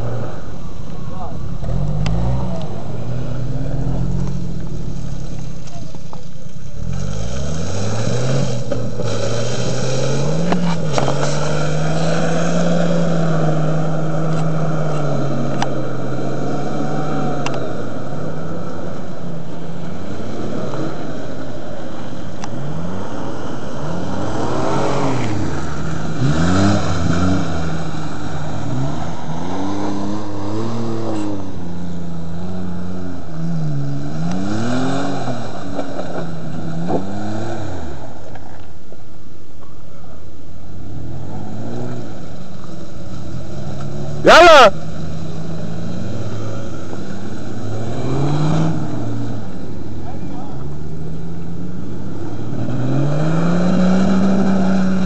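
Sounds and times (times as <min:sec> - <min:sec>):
off-road vehicle engine revving: 0:00.0 - 0:38.6, 0:40.6 - 0:55.0.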